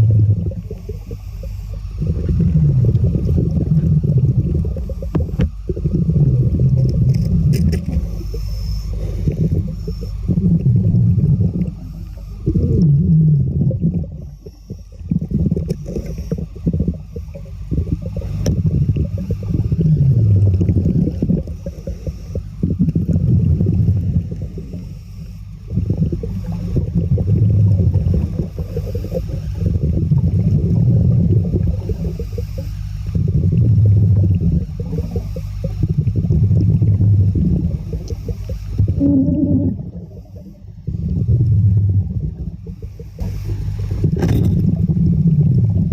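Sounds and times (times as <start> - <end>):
underwater rumble and bubbling: 0.0 - 45.9.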